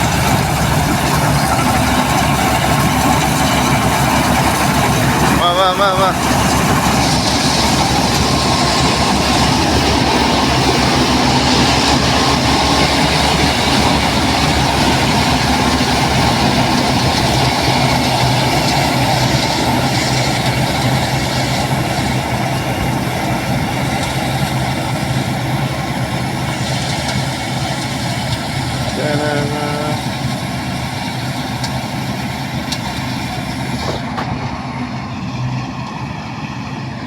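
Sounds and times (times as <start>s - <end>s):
combine harvester running: 0.0s - 37.0s.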